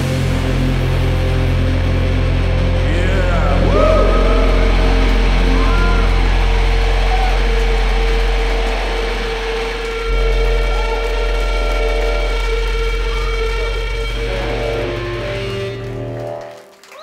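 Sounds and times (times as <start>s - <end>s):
loud low hum: 0.0s - 16.6s
electric guitar feedback drone: 0.0s - 16.8s.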